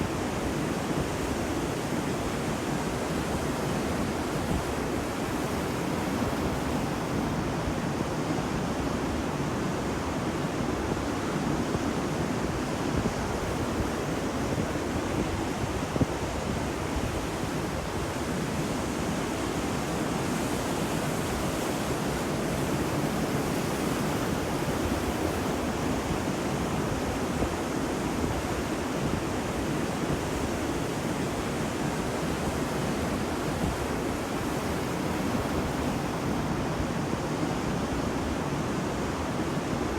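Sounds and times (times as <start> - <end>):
ocean waves washing on beach: 0.0 - 39.9.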